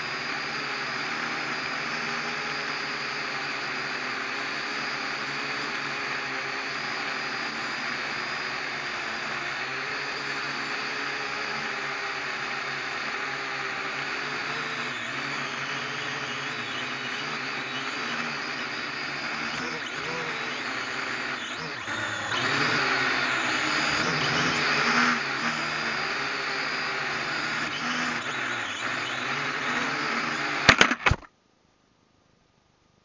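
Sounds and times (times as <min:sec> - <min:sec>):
drone propellers whirring: 0:00.0 - 0:31.3.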